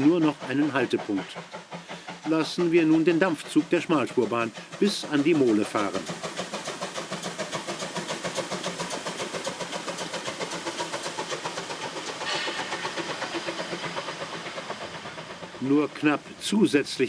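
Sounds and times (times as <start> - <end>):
steam hissing: 0.0 - 17.0
steam locomotive chuffing: 0.0 - 17.0.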